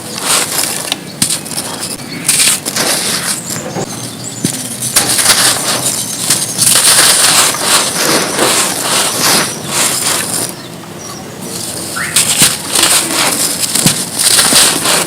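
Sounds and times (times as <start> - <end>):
mud chunks crunching: 0.0 - 10.7, 11.5 - 15.0.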